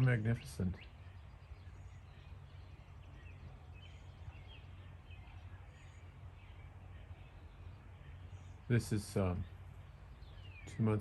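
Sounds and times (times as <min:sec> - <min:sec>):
faint bird chirps: 0:00.0 - 0:11.0
low outdoor background hum: 0:00.0 - 0:11.0.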